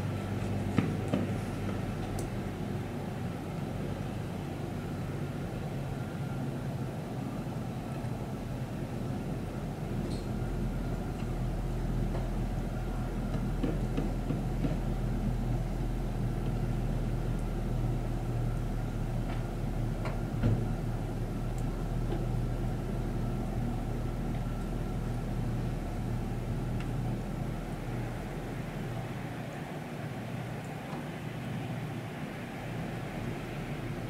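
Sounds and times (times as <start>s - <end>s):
faint hum: 0.0s - 34.0s
low mechanical rumble: 0.0s - 34.0s.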